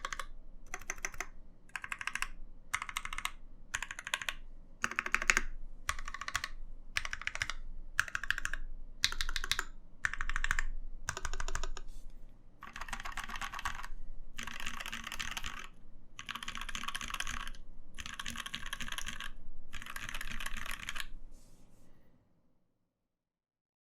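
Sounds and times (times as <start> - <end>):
mechanical keyboard typing: 0.0 - 11.9, 12.6 - 21.1.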